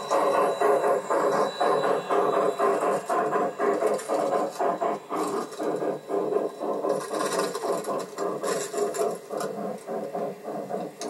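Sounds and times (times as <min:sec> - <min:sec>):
model train wheels clicking: 0:00.0 - 0:11.0.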